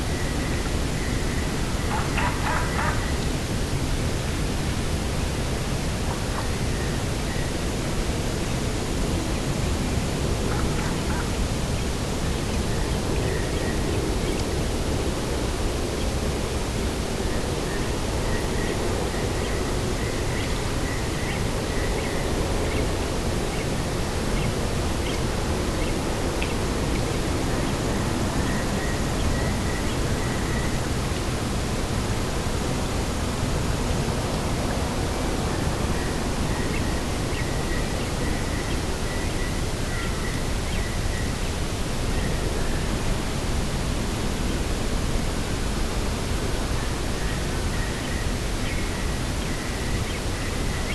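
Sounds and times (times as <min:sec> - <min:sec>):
wind and sea rushing: 0:00.0 - 0:50.9.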